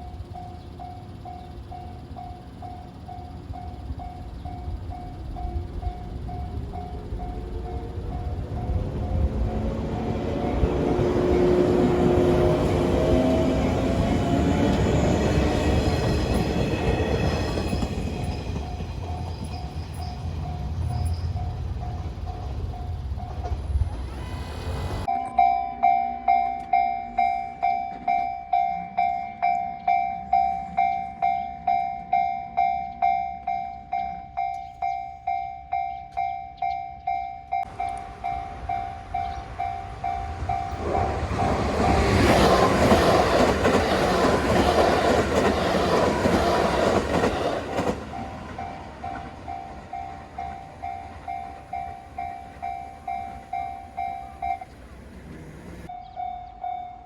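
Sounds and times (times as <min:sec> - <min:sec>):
level crossing warning bell: 0:00.0 - 0:23.8, 0:25.0 - 0:57.0
train wheel and rail noise: 0:00.0 - 0:57.0.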